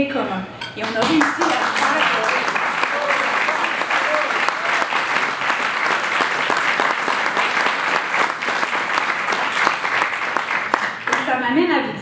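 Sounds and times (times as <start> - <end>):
audience applauding: 0.8 - 11.4.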